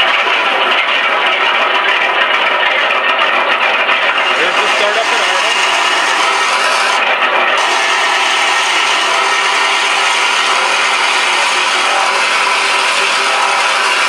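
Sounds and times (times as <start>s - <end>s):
synthesized aircraft engine running: 0.0s - 14.0s.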